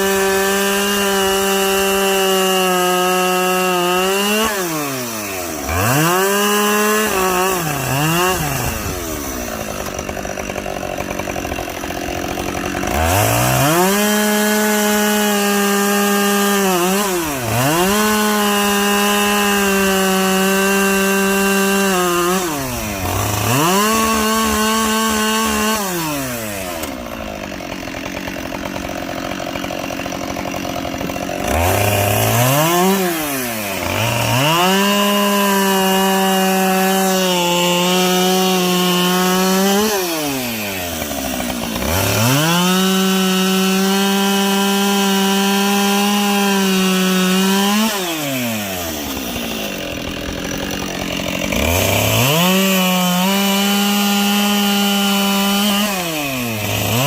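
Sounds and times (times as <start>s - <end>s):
chainsaw cutting logs: 0.0s - 57.0s
chainsaw idling: 0.0s - 57.0s.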